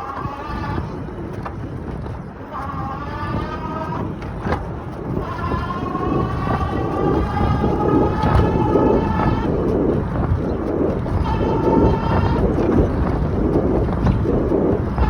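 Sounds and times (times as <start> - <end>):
electric bike motor whining: 0.0 - 15.0
wind rumble: 0.0 - 15.0.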